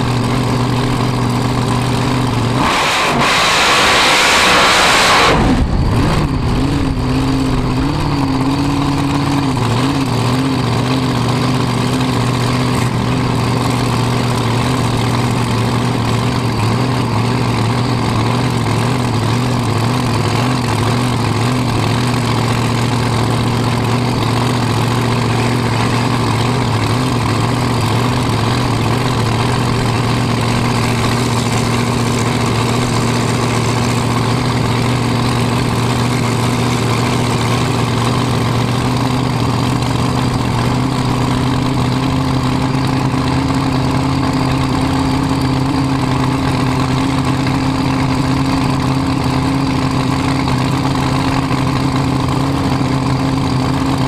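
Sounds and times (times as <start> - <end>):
dragster engine idling loudly: 0.0 - 54.0.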